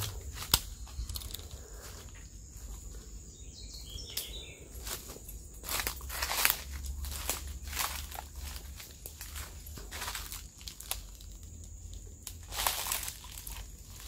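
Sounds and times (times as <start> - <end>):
footsteps through dry leaves: 0.0 - 14.0.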